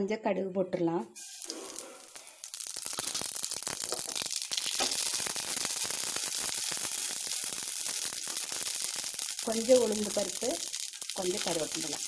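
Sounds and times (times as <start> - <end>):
seeds crackling in hot oil: 1.2 - 12.0.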